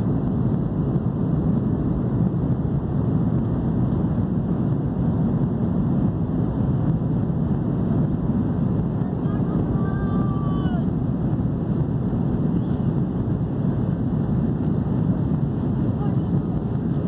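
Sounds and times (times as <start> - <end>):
jet airliner cabin noise: 0.0 - 17.0.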